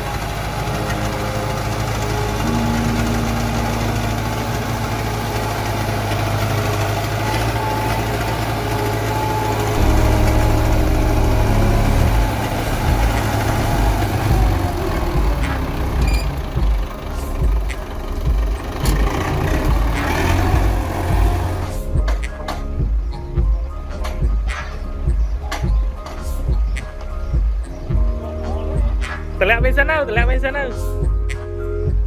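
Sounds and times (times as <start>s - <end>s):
heavy machine engine running: 0.0s - 29.5s
engine knocks: 0.0s - 32.0s.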